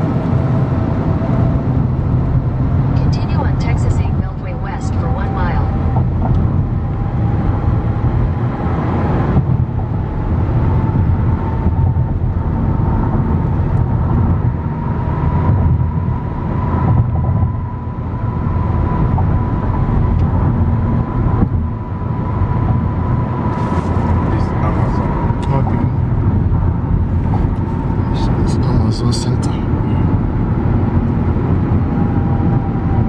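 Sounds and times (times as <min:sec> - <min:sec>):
thin steady whine: 0:00.0 - 0:08.7, 0:09.4 - 0:33.0
car cabin road rumble: 0:00.0 - 0:33.0.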